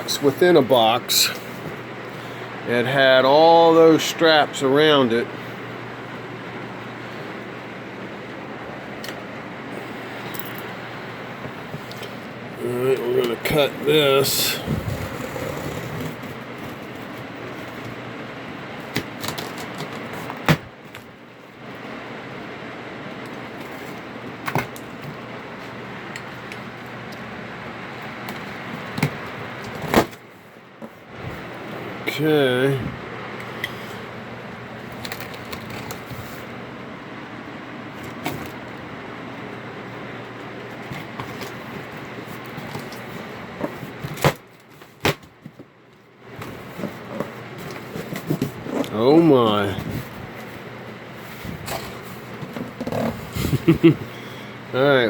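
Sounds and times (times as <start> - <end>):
steady background hiss: 0.0 - 19.6, 20.3 - 45.2.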